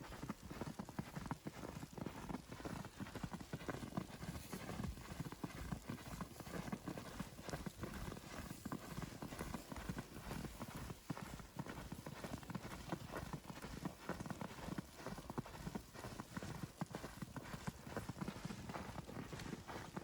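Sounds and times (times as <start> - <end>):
footsteps crunching in snow: 0.2 - 20.0.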